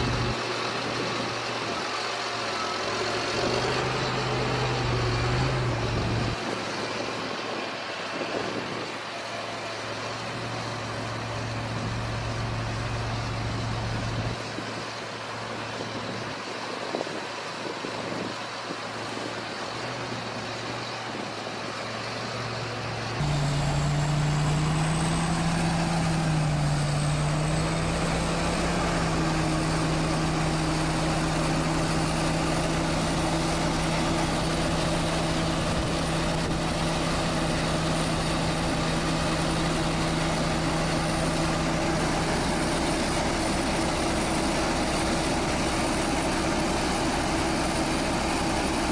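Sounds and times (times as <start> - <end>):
farm machinery engine running: 0.0 - 48.9.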